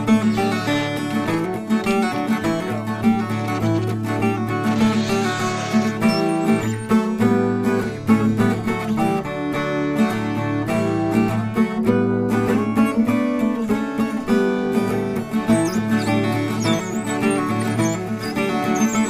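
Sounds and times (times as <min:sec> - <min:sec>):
acoustic guitar plucked and strummed: 0:00.0 - 0:19.0.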